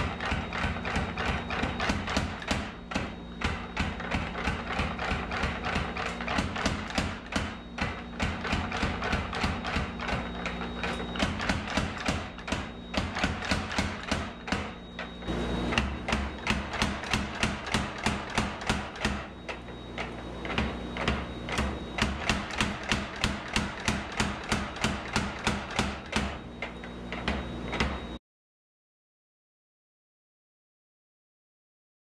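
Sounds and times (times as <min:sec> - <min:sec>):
motor humming: 0:00.0 - 0:28.0
power hammer striking steel: 0:00.0 - 0:28.2.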